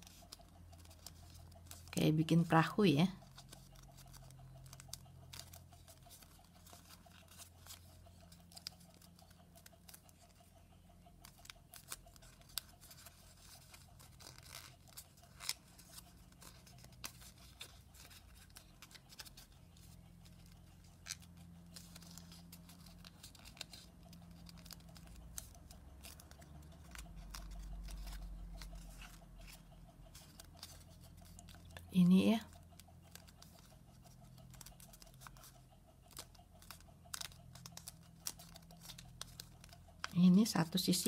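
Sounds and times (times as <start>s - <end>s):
paper rustling and crackling: 0.0s - 2.6s, 3.2s - 10.5s, 11.2s - 31.8s, 32.5s - 40.6s
steady low hum: 0.0s - 41.0s.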